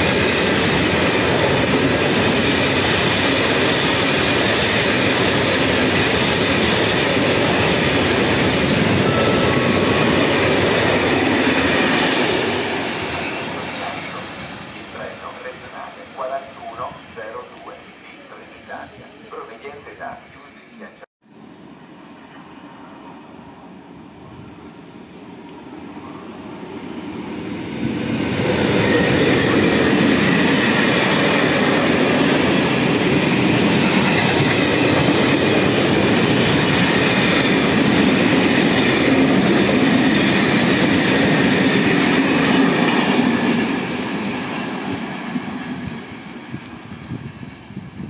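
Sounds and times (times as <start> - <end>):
freight train passing: 0.0 - 48.0.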